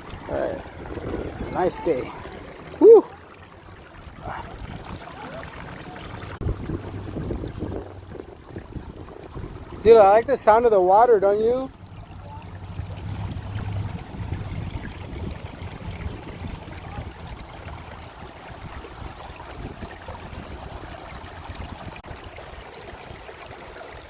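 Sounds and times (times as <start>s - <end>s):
low rumbling: 0.0s - 10.6s, 11.2s - 22.0s
creek water running over rocks: 0.0s - 24.0s.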